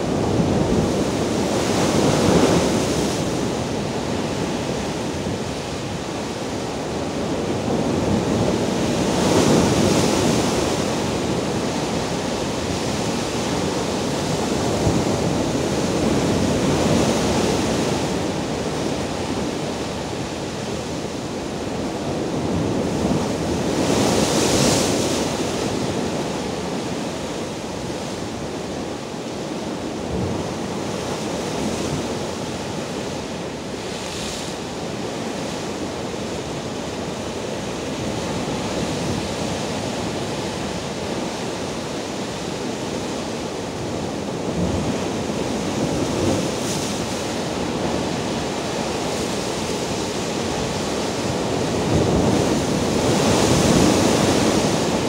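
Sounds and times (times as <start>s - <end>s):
surf washing over rocks: 0.0s - 55.0s
waves crashing: 0.0s - 55.0s.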